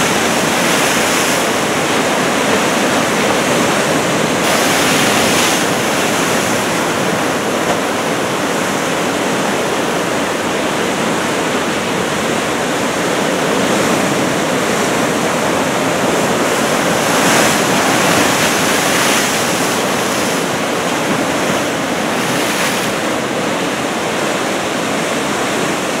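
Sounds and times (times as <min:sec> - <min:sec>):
surf breaking: 0:00.0 - 0:26.0.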